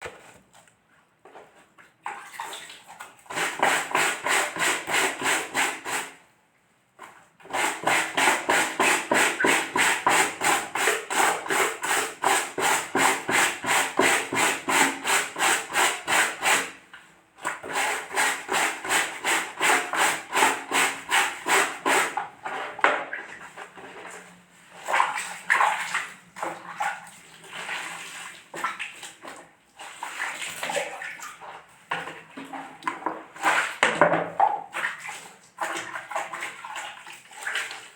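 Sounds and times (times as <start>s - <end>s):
wet laundry scrubbed by hand: 1.3s - 6.2s, 7.0s - 37.9s.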